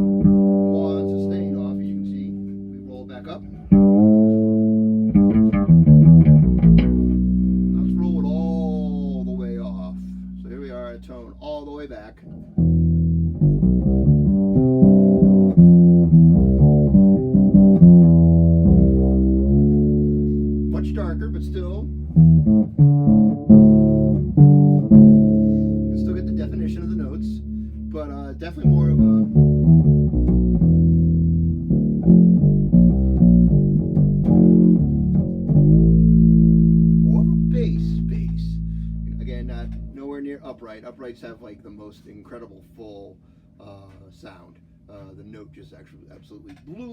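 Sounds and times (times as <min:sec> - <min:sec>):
plucked bass notes: 0:00.0 - 0:40.1.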